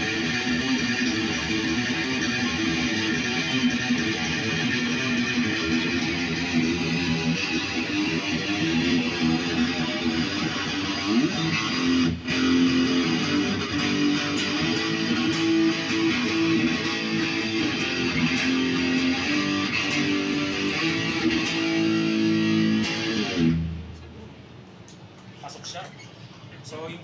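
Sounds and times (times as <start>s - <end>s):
electric guitar chords and notes: 0.0s - 24.0s.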